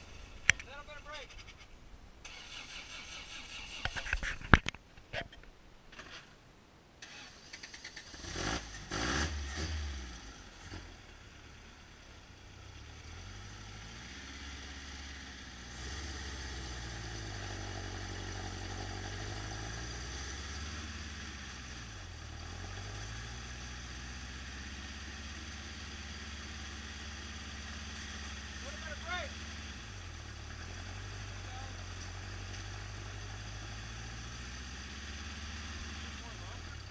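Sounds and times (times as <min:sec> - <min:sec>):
truck engine at low revs: 0:07.0 - 0:36.9.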